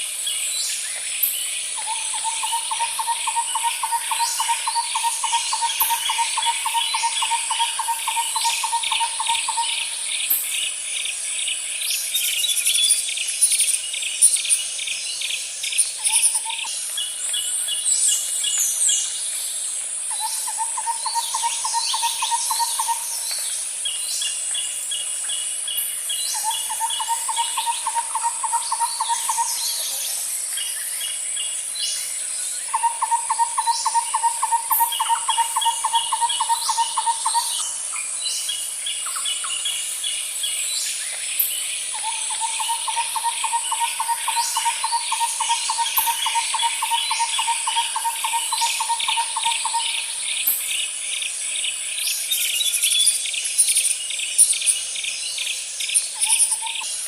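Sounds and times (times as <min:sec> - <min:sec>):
high-pitched insect drone: 0:00.0 - 0:57.0
birds chirping and trilling: 0:00.3 - 0:57.0.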